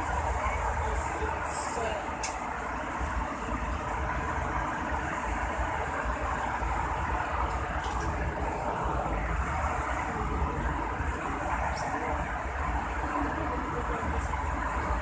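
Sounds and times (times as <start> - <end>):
airliner cabin rumble: 2.4 - 15.0.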